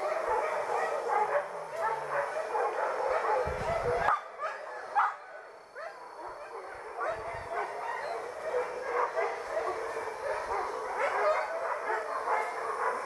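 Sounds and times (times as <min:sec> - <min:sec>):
dogs barking and yelping: 0:00.0 - 0:13.0.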